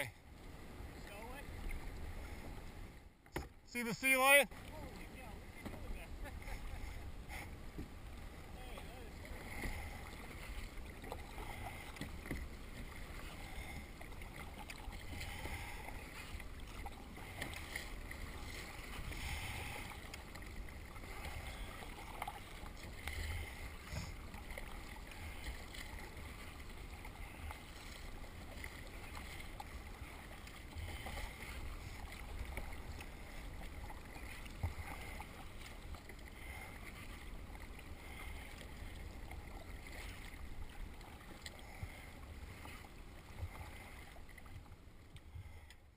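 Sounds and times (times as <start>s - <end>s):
paddle splashing water: 0.0s - 45.9s.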